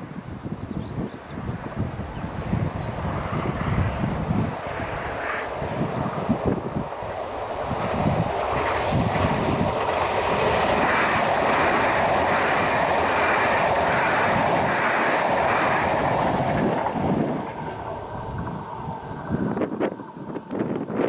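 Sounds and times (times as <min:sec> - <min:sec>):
train passing at high speed: 0:00.0 - 0:21.0
wind buffeting microphone: 0:00.0 - 0:21.0.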